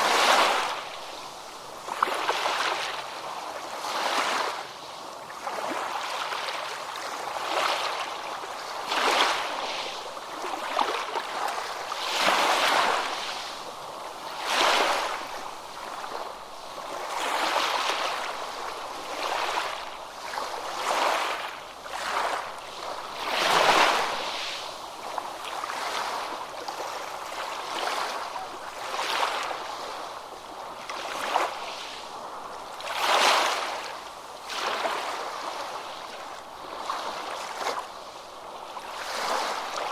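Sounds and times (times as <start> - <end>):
ocean waves crashing: 0.0 - 4.7, 8.6 - 37.9.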